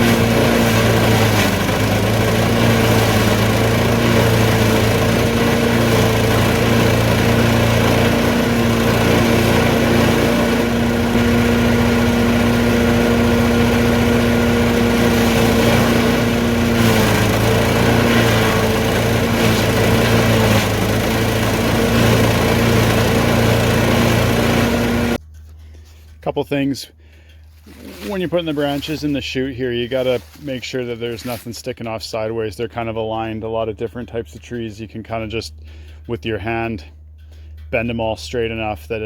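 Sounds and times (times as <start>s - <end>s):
small engine running: 0.0s - 26.2s, 26.8s - 30.4s, 32.6s - 39.0s
engine crackles: 0.0s - 39.0s.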